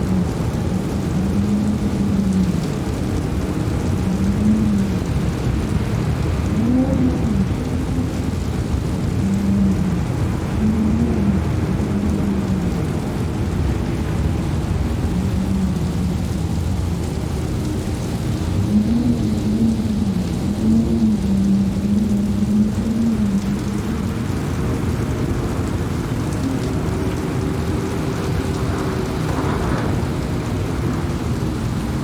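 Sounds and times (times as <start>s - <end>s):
wavering moaning tone: 0.0s - 16.7s, 17.3s - 32.0s
wind buffeting microphone: 0.0s - 32.0s.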